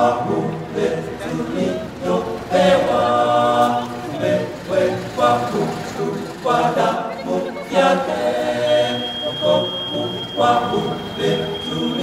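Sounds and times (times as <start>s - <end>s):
unaccompanied choir singing: 0.0s - 12.0s.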